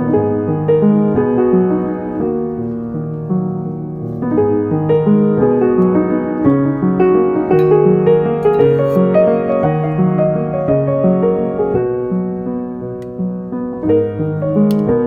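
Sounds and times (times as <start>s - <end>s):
soft piano melody: 0.0s - 15.0s.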